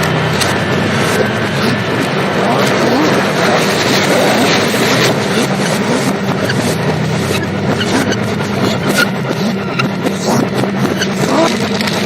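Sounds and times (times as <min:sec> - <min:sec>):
low droning score: 0:00.0 - 0:12.0.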